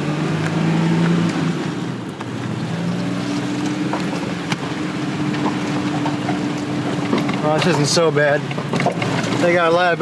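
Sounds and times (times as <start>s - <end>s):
car engine drone: 0.0s - 10.0s
road noise: 0.0s - 10.0s.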